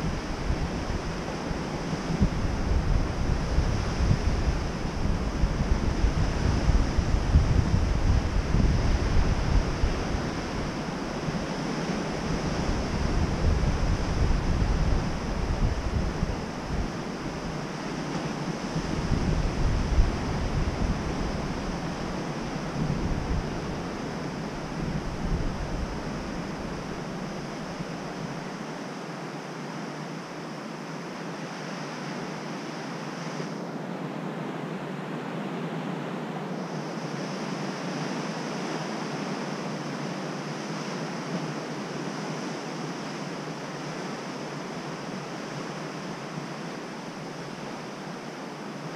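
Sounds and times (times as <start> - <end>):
wind gusting on microphone: 0.0 - 48.9.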